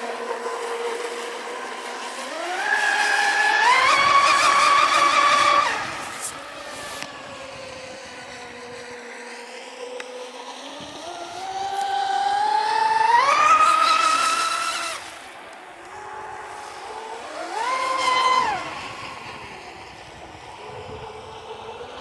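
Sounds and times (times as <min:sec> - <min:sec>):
model boat motor whining: 0:00.0 - 0:22.0.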